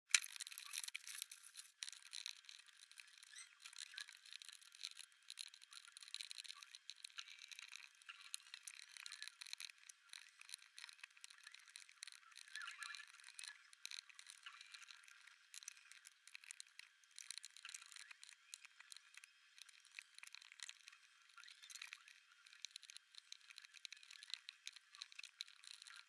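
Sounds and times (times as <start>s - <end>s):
puzzle pieces rattling and scraping: 0.1s - 26.0s.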